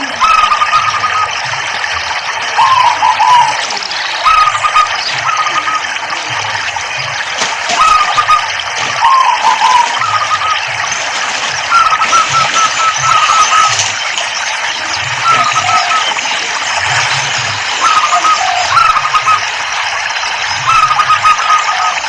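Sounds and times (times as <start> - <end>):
dove cooing: 0.0 - 22.0
trickling splashing water: 0.0 - 22.0.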